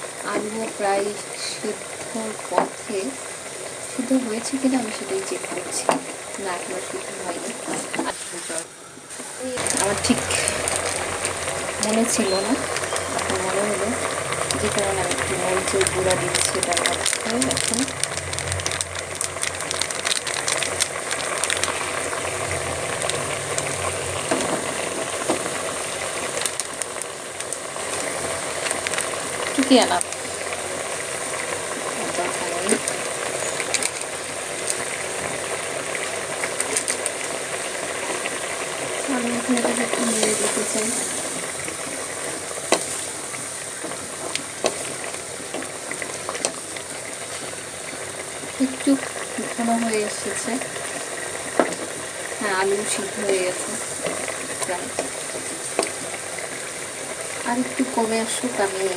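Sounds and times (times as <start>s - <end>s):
curry bubbling and sizzling in pot: 0.0s - 58.9s.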